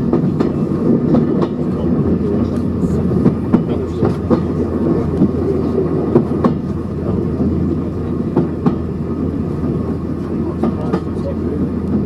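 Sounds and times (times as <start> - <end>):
train rumbling on track: 0.0 - 12.0
wheels clicking on rails: 0.0 - 12.0.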